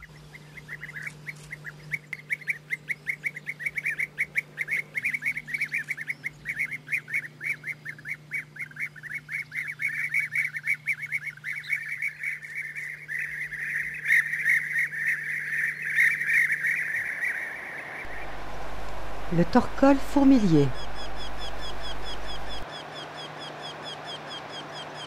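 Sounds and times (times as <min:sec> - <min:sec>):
bee-eaters calling: 0:00.1 - 0:25.0.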